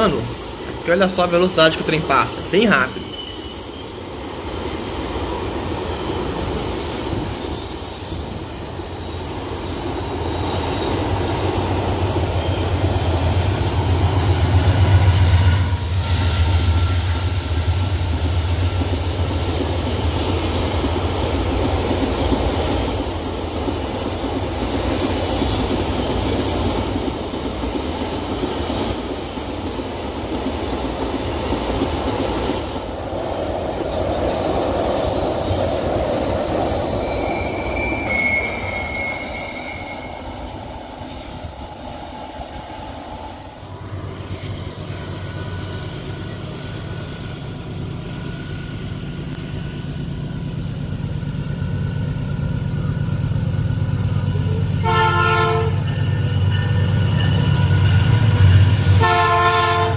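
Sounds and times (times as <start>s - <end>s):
diesel locomotive engine drone: 0.0s - 59.9s
train wagons rumbling over rails: 0.0s - 59.9s.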